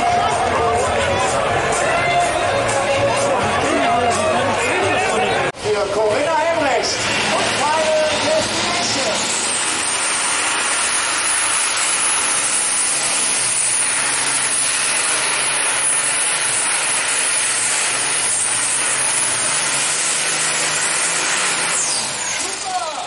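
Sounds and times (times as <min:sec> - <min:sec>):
tractor engine at full power: 0:00.0 - 0:23.0.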